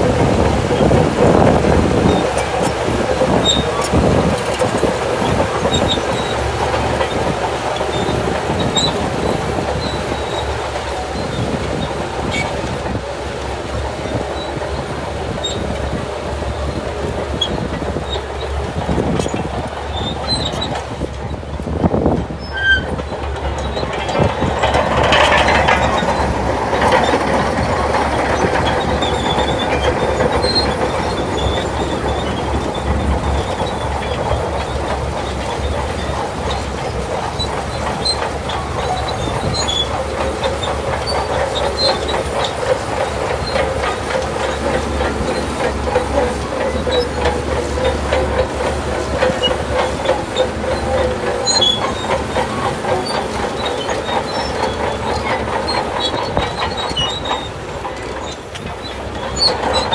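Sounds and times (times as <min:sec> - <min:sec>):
diesel engine humming: 0:00.0 - 0:59.9
steady squeal: 0:00.0 - 0:59.9
steel track clatter: 0:00.0 - 0:59.9.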